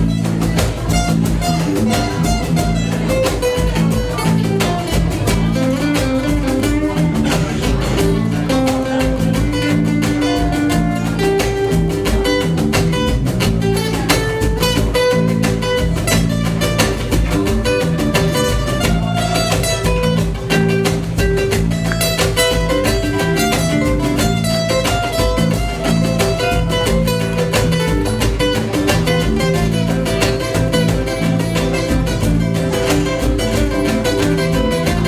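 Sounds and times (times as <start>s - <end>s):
acoustic band playing: 0.0s - 35.0s
plucked acoustic guitar: 0.0s - 35.0s.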